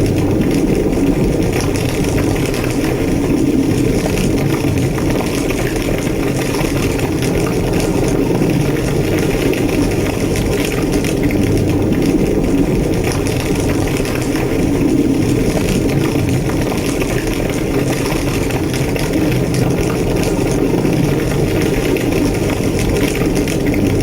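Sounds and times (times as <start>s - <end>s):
fire crackling: 0.0s - 24.0s
large fire roaring: 0.0s - 24.0s.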